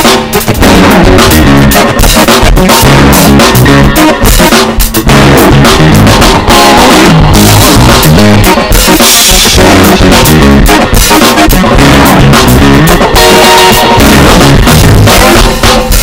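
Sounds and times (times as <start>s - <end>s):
drum kit: 0.0s - 16.0s
guitar: 0.0s - 16.0s
loud rock music: 0.0s - 16.0s.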